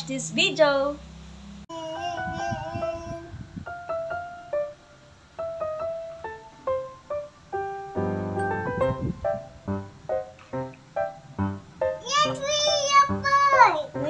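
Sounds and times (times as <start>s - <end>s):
keyboard melody with low chords: 1.8s - 14.0s.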